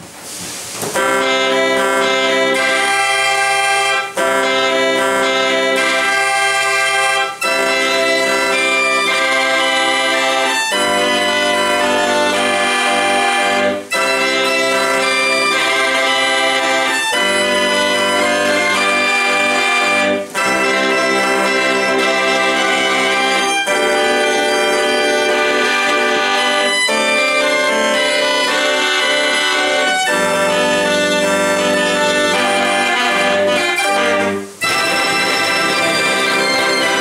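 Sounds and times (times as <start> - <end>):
fair organ playing melody: 0.9 - 37.0.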